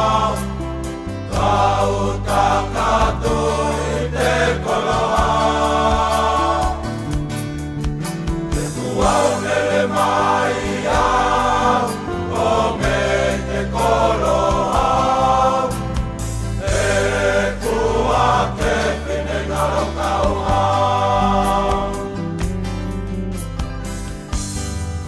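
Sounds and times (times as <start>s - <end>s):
choral singing: 0.0s - 7.4s, 8.3s - 22.6s.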